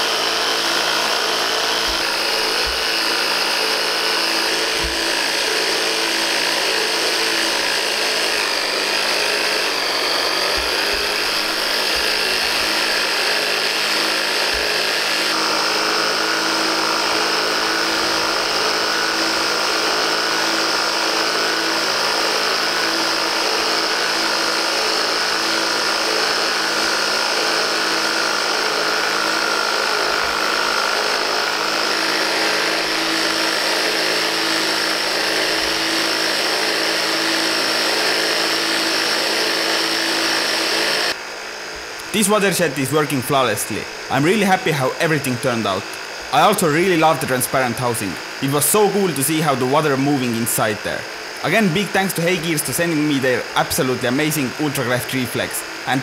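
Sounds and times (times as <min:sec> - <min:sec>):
electric motor pump whining: 0:00.0 - 0:56.0.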